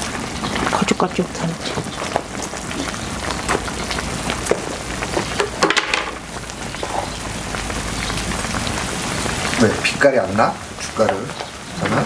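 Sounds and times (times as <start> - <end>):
firewood crackling: 0.0 - 12.0
stew bubbling: 0.0 - 12.0.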